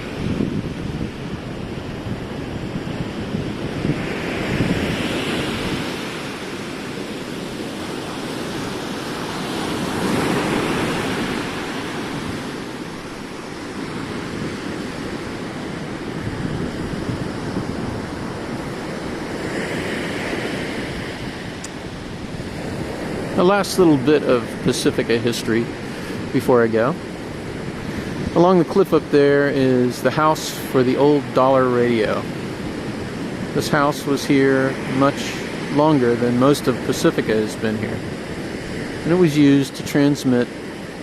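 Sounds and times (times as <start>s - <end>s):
wind buffeting microphone: 0.0s - 39.5s
ocean surf breaking: 0.0s - 41.0s.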